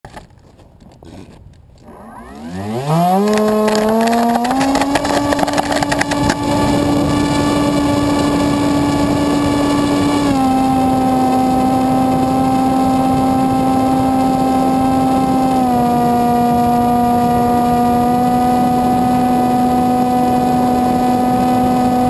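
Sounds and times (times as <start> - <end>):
electric motor whine: 1.8 - 22.0.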